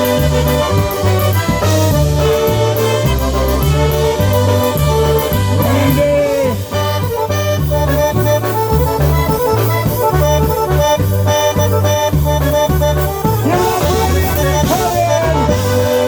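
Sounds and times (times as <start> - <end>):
accordion: 0.0 - 16.0
oom-pah bass line: 0.0 - 16.0
polka band playing: 0.0 - 16.0.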